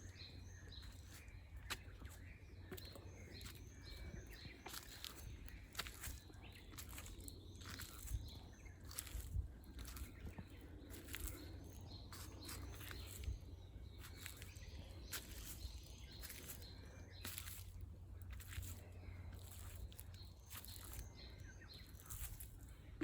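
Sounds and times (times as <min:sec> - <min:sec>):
small birds chirping: 0:00.0 - 0:23.0
dry leaves crackling: 0:02.8 - 0:23.0.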